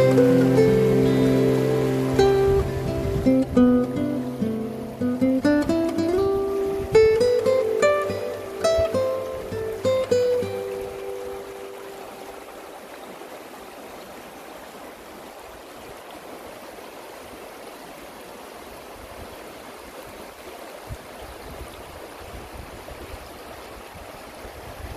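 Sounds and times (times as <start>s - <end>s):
river flowing over stones: 0.0s - 24.9s.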